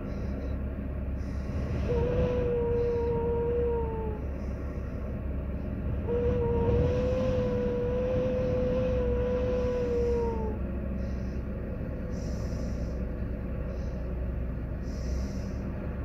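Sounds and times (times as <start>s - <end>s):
low diesel rumble: 0.0s - 16.0s
steady mechanical whine: 0.0s - 16.0s.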